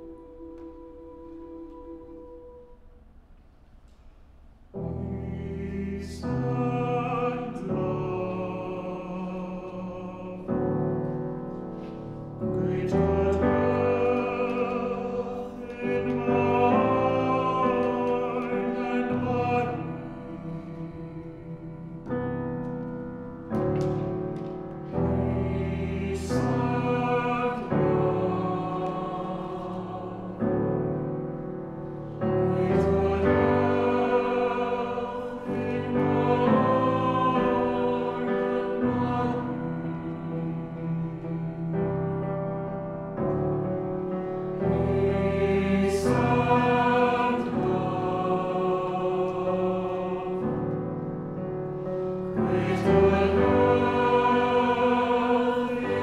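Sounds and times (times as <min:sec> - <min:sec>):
mixed choir singing held chords: 0:04.7 - 0:56.0.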